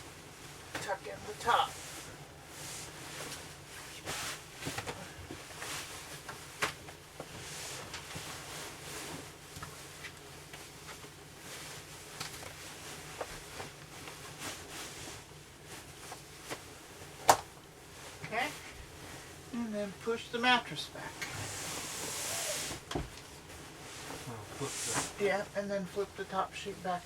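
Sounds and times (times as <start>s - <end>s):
bedsheets rustling: 0.0s - 27.0s.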